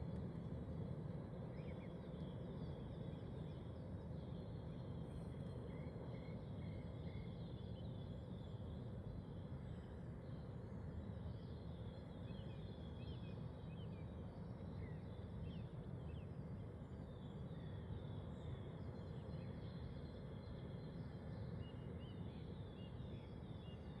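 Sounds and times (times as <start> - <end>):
steady low background noise: 0.0 - 24.0.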